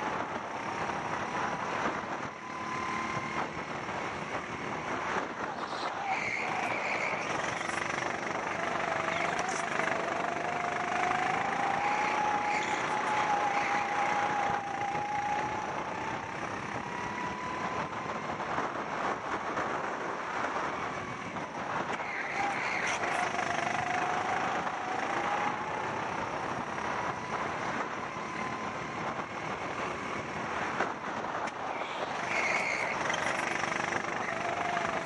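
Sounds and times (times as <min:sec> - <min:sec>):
go-kart engine running hard: 0:00.0 - 0:35.0
wind rush over microphone: 0:00.0 - 0:35.0.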